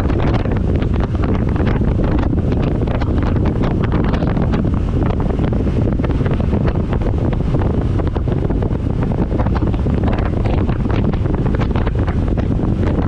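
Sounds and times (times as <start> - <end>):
motorcycle engine and road noise: 0.0 - 13.0
wind buffeting microphone: 0.0 - 13.0.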